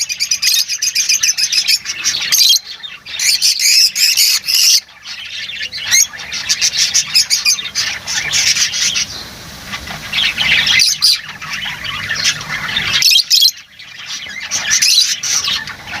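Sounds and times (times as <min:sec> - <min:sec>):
lovebirds chirping and squawking: 0:00.0 - 0:16.0.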